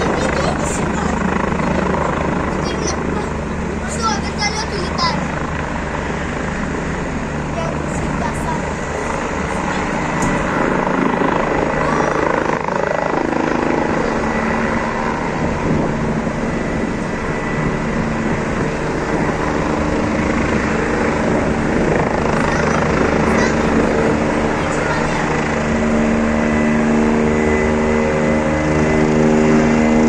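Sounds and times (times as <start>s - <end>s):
helicopter rotor and turbine: 0.0s - 30.0s.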